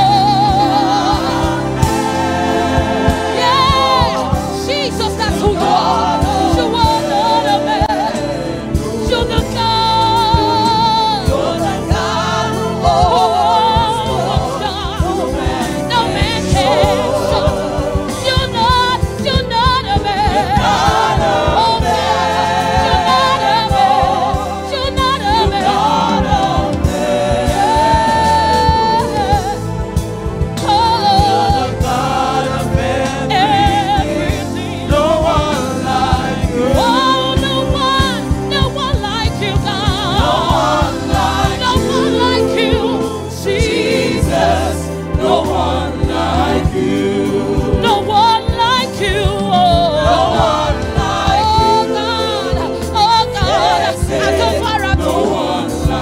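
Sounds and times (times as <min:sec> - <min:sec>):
woman singing lead: 0:00.0 - 0:35.2, 0:36.0 - 0:45.3, 0:46.6 - 0:56.0
band accompaniment: 0:00.0 - 0:56.0
choir singing: 0:00.0 - 0:56.0.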